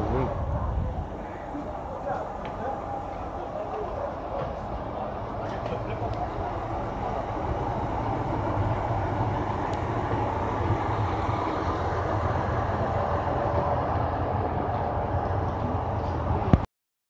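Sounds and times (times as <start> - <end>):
train low rumble: 0.0 - 16.7.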